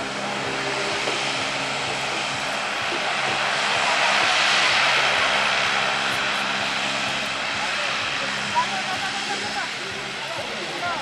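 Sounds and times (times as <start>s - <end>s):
turboprop engines humming: 0.0s - 11.0s.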